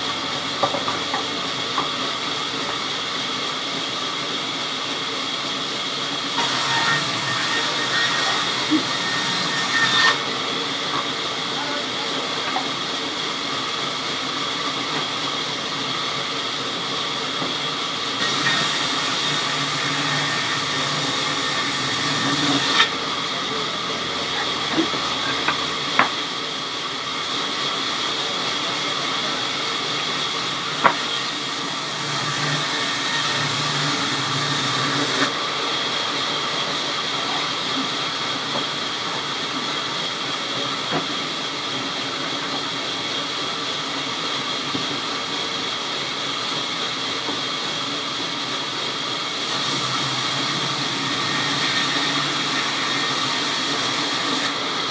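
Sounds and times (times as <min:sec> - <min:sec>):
sawmill machinery running: 0:00.0 - 0:54.9
saw hissing cutting wood: 0:05.2 - 0:43.2, 0:48.9 - 0:54.9.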